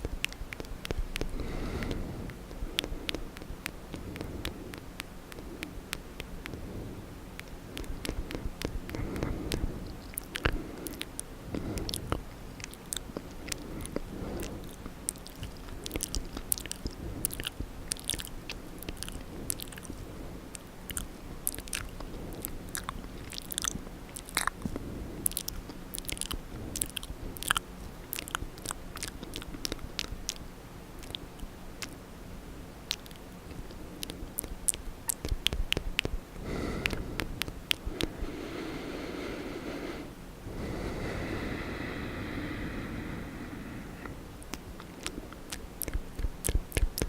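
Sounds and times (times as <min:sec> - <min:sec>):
wet mouth clicks and smacks: 0:00.1 - 0:06.7, 0:07.3 - 0:32.0, 0:32.8 - 0:38.4, 0:44.0 - 0:47.0.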